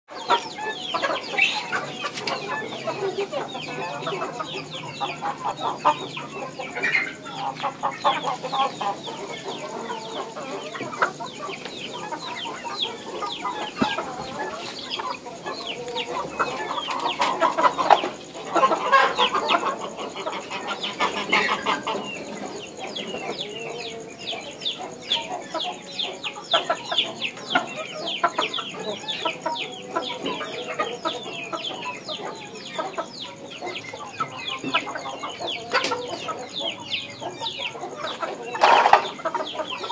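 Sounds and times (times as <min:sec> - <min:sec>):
chickens clucking: 0:00.1 - 0:39.9
chirping calls: 0:00.1 - 0:39.9.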